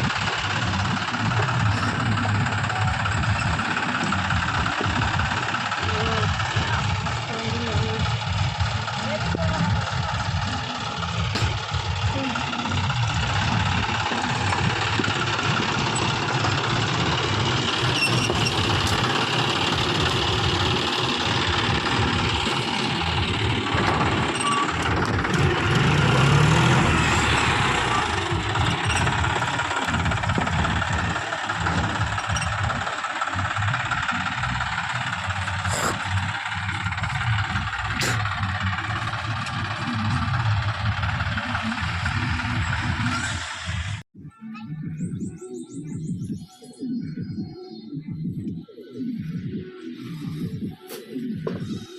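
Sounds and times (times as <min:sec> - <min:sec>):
tractor diesel engine clattering: 0:00.0 - 0:44.1, 0:49.3 - 0:51.9.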